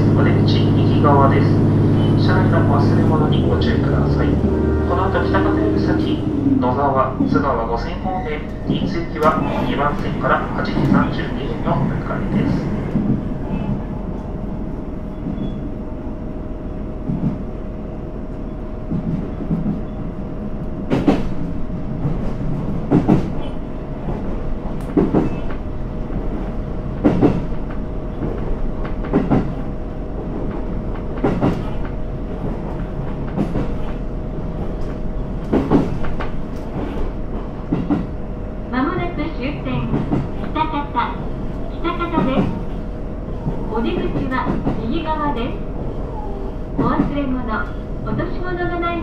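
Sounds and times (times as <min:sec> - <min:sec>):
railcar rumble and hum: 0:00.0 - 0:49.0.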